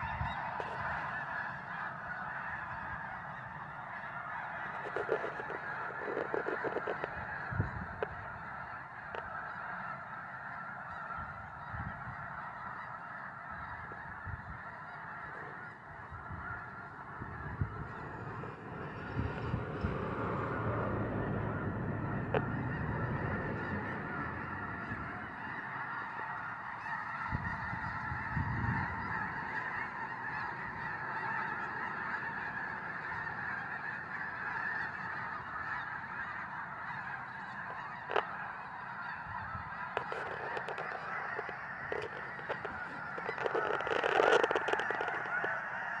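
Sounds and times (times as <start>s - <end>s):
flock of geese honking: 0.0s - 46.0s.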